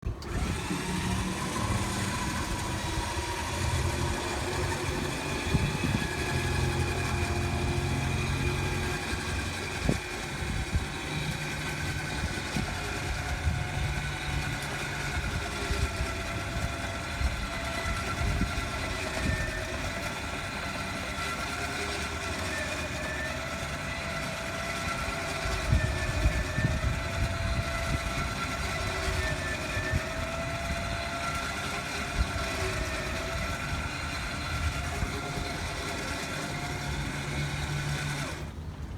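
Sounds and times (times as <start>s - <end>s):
motor humming with faint whine: 0.0s - 38.9s.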